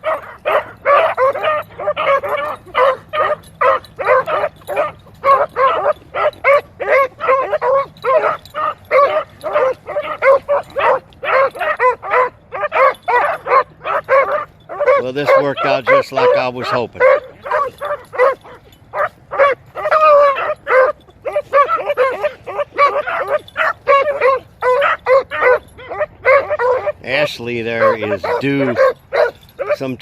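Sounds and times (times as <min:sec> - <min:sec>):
dogs baying and yelping: 0:00.0 - 0:30.0.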